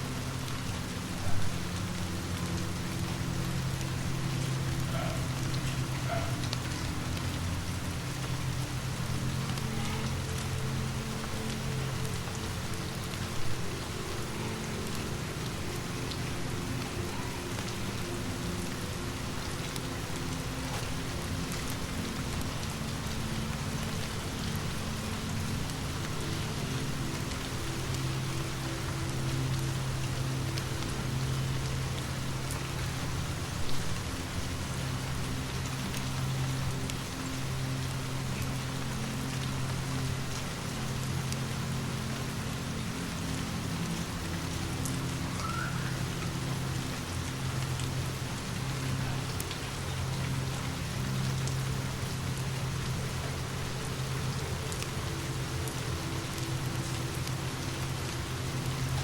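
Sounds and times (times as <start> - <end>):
low steady drone: 0.0 - 59.0
steady rain falling: 0.0 - 59.0.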